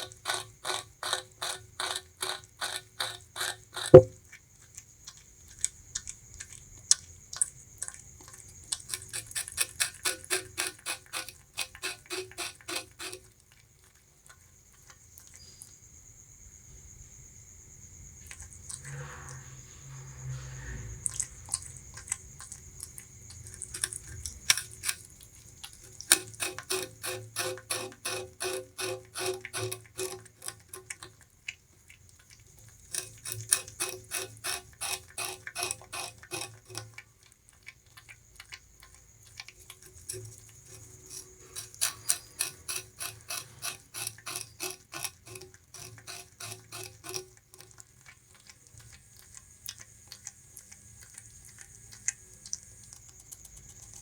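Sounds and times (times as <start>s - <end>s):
rat gnawing sugarcane: 0.0s - 17.1s, 17.8s - 54.0s.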